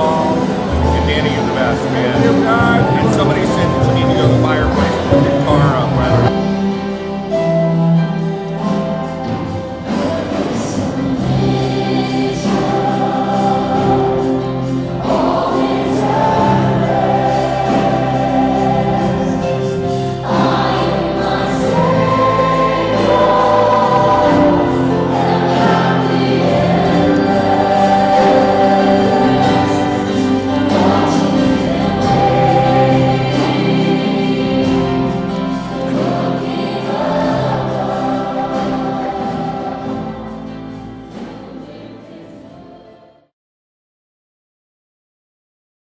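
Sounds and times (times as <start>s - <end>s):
choir singing gospel music: 0.0s - 43.3s.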